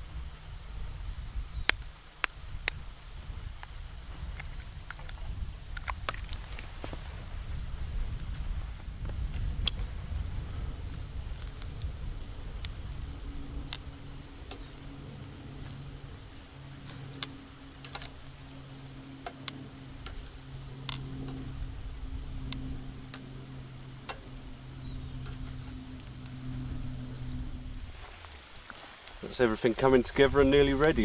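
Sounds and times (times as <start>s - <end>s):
fat crackling and sizzling: 0.0s - 31.0s
steady low hum: 0.0s - 31.0s.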